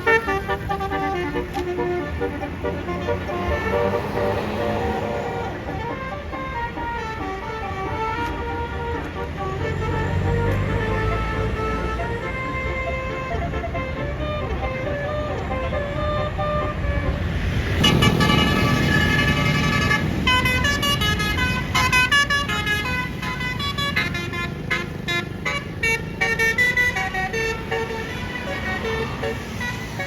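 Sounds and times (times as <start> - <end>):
bus engine: 0.0 - 30.0
multi-trumpet bus horn tune: 0.0 - 30.0.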